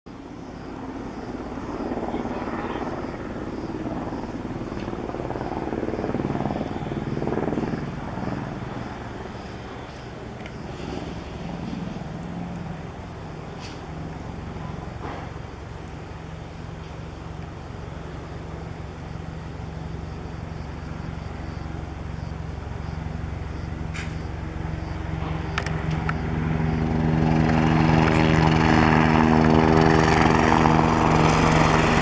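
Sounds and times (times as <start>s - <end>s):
helicopter rotor and turbine rumble: 0.1s - 32.0s.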